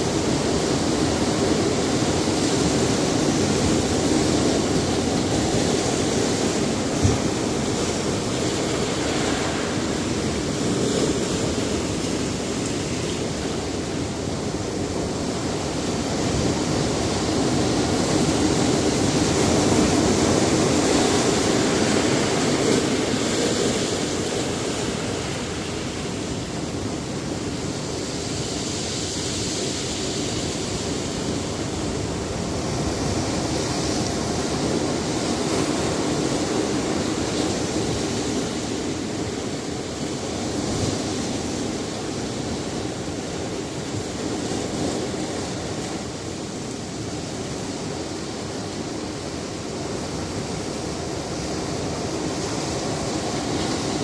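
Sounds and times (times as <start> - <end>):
waves breaking on rocks: 0.0 - 54.0.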